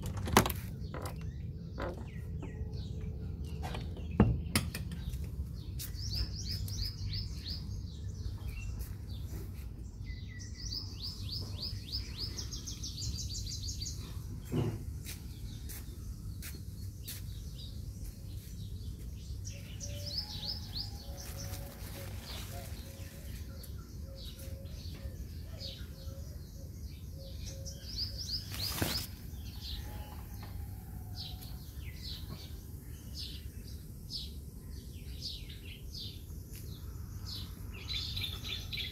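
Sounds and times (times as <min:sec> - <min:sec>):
small birds chirping: 0:00.0 - 0:30.6, 0:31.2 - 0:38.9.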